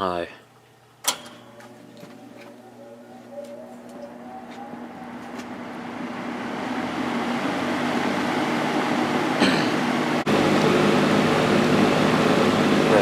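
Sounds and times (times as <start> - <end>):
box fan running: 0.5 - 13.0.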